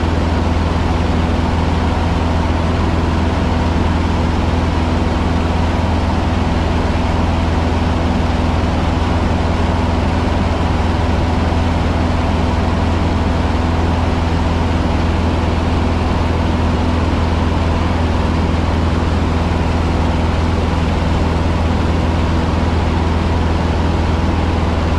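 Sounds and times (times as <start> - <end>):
propeller aircraft engine drone: 0.0 - 24.9.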